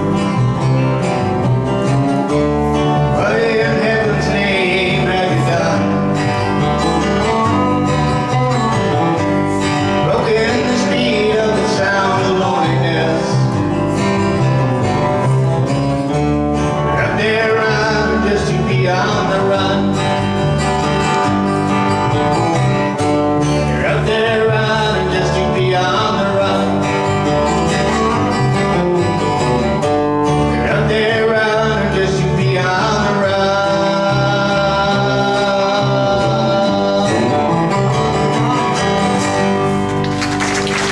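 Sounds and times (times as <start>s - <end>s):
acoustic guitar: 0.0s - 40.9s
country bluegrass band music: 0.0s - 40.9s.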